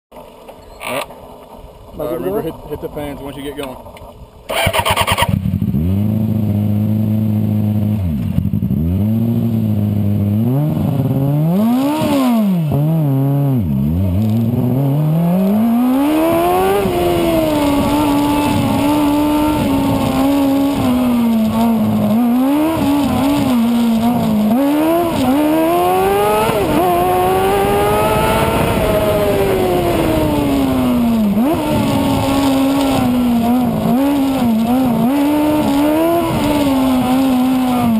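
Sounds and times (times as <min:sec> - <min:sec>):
race car engine revving: 0:04.5 - 0:37.9.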